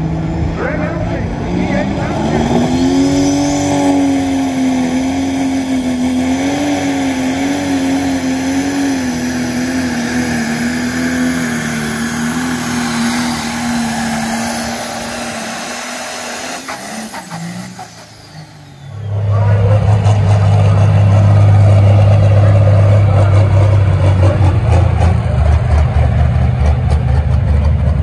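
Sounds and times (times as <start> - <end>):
diesel engine running flat out: 0.0 - 28.0.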